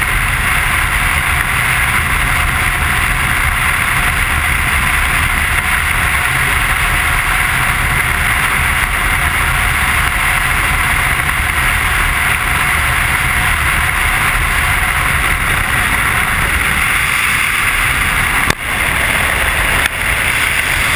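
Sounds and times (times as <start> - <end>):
motorcycle engine and road noise: 0.0 - 20.9
wind rush: 0.0 - 20.9.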